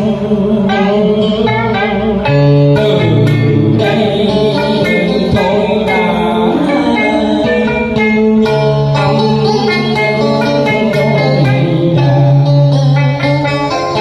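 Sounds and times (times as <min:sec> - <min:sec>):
electric guitar: 0:00.0 - 0:14.0
man singing through microphone: 0:00.0 - 0:14.0
plucked lute: 0:00.0 - 0:14.0.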